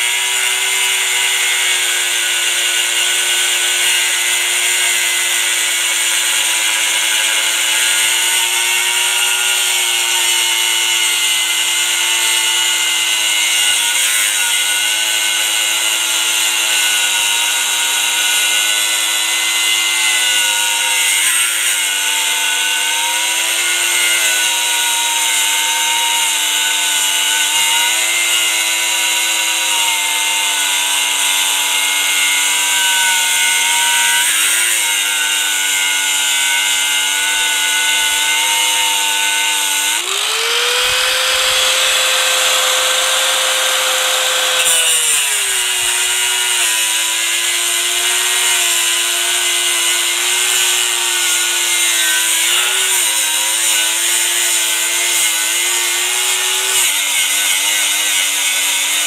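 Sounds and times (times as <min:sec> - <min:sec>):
angle grinder cutting steel: 0:00.0 - 0:59.0.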